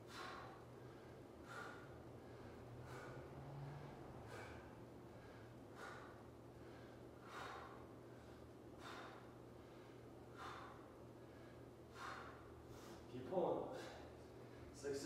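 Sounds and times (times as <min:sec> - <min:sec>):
man breathing out hard: 0:00.0 - 0:13.1
steady low hum: 0:00.0 - 0:15.0.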